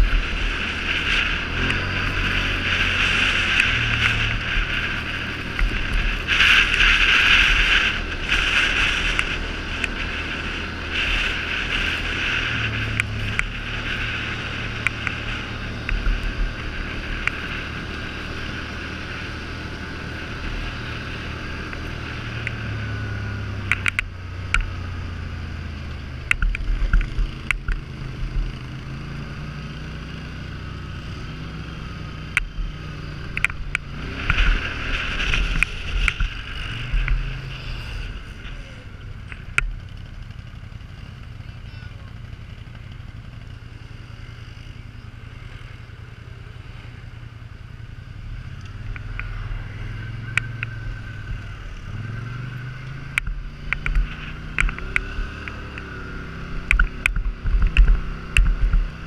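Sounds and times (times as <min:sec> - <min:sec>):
gravel clicks and rattles: 0:00.0 - 0:29.2, 0:32.3 - 0:43.6, 0:46.7 - 0:59.0
atv engine revving: 0:00.0 - 0:59.0.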